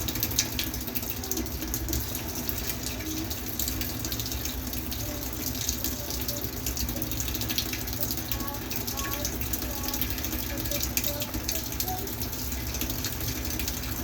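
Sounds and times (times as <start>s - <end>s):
fine crackling fizz: 0.0s - 14.0s
hot water running: 0.0s - 14.0s.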